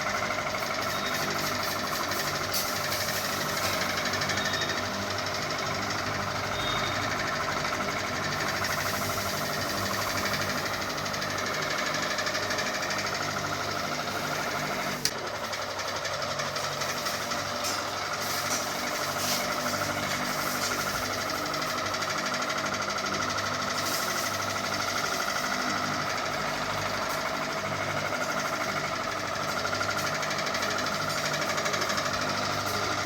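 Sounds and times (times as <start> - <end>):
ceiling fan rattling and humming: 0.0 - 33.0.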